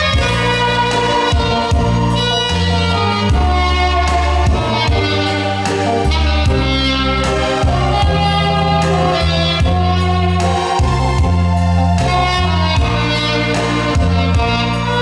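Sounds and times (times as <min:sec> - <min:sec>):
backing track with bass and beat: 0:00.0 - 0:15.0
saxophone playing slow melody: 0:00.0 - 0:15.0.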